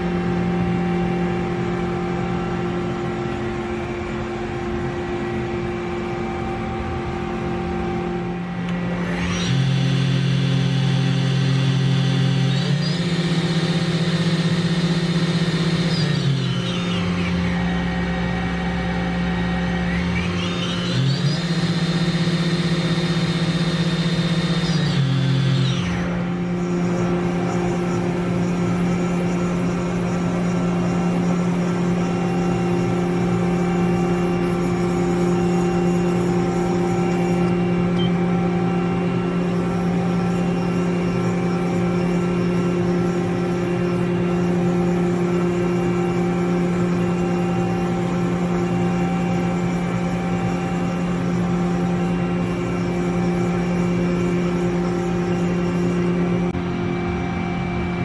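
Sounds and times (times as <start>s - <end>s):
machining centre hum: 0.0s - 58.0s.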